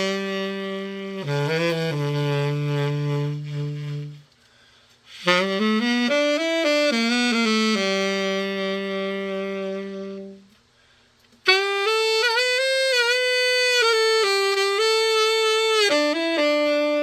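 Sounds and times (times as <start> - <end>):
tenor saxophone playing: 0.0 - 17.0.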